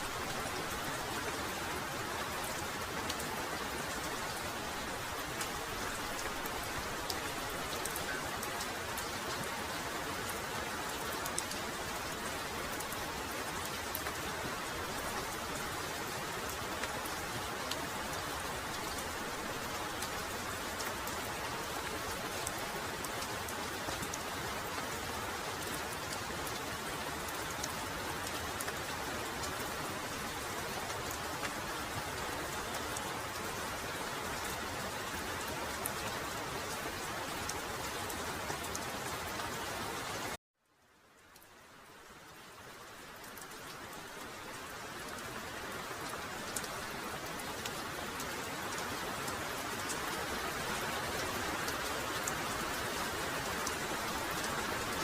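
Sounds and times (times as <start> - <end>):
heavy rain falling: 0.0 - 40.4, 41.0 - 55.0.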